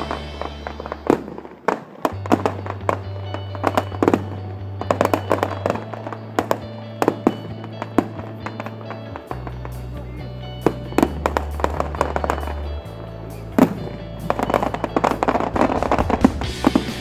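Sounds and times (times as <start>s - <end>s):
fireworks bangs and crackling: 0.0s - 17.0s
music with low bass notes: 0.0s - 17.0s.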